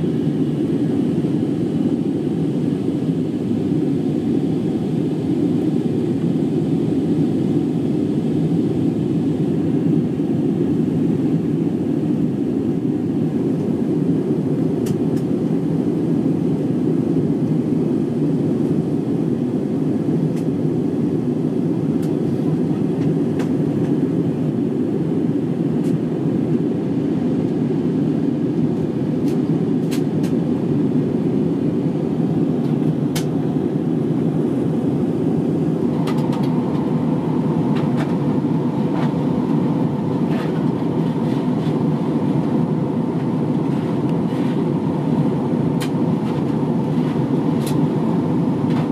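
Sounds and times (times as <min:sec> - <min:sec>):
airliner cabin roar: 0:00.0 - 0:48.9.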